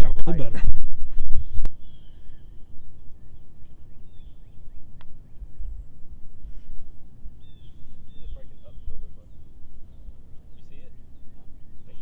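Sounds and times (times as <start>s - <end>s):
wind rumble on microphone: 0.0s - 12.0s
birds chirping: 1.2s - 12.0s.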